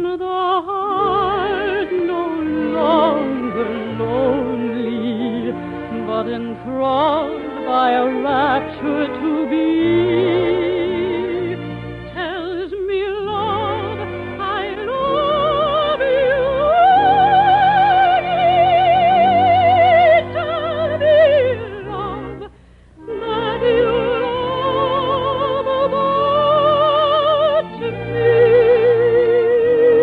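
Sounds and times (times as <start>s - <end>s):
operatic singing with orchestra: 0.6s - 30.0s.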